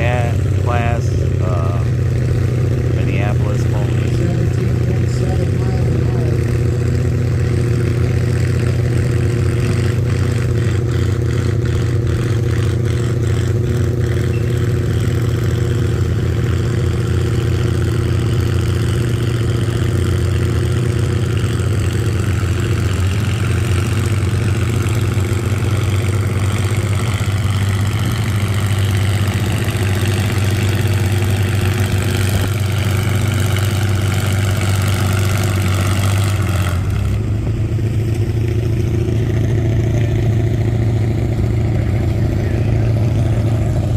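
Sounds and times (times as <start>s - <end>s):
tractor engine droning: 0.0s - 43.9s.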